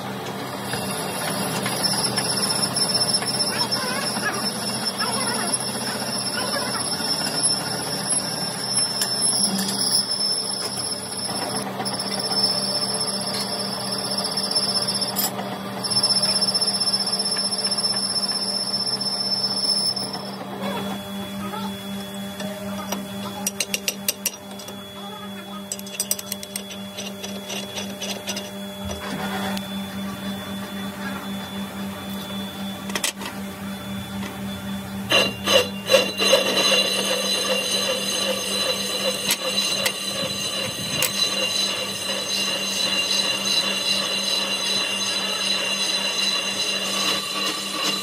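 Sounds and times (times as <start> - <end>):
metal lathe hum: 0.0 - 48.0
high ringing of tool cutting metal: 0.6 - 20.4, 22.4 - 29.1, 35.1 - 48.0.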